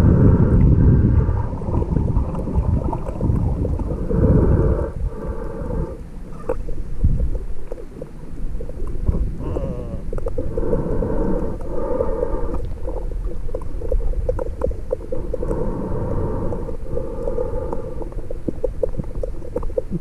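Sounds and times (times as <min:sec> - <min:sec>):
muffled underwater water sloshing: 0:00.0 - 0:20.0.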